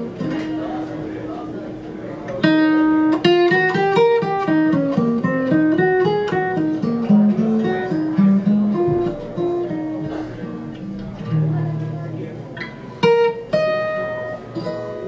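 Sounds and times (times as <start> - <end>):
acoustic guitar jazz tune: 0.0 - 15.0.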